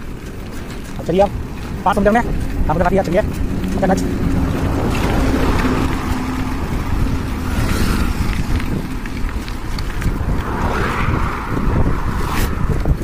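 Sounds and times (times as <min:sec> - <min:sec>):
faint engine hum: 0:00.0 - 0:12.4
traffic hiss on road: 0:00.0 - 0:13.0
wind rumbling on microphone: 0:00.0 - 0:13.0.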